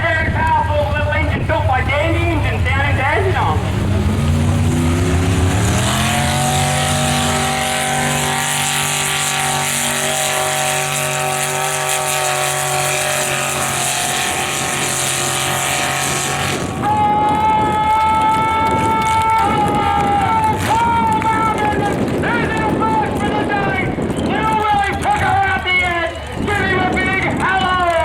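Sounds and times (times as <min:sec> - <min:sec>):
higher steady engine note: 0:00.0 - 0:28.0
tractor engine revving: 0:00.0 - 0:28.0.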